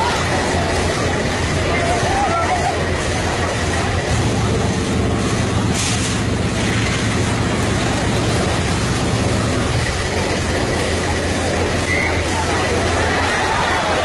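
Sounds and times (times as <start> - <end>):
crowd noise: 0.0 - 14.0
ride machinery low rumble: 0.0 - 14.0.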